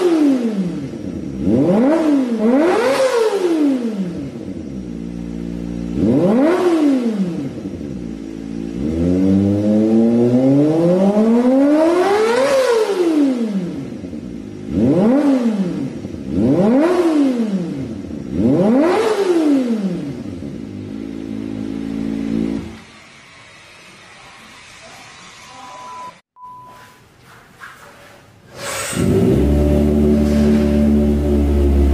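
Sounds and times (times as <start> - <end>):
motorcycle engine revving: 0.0 - 23.0, 28.8 - 31.9.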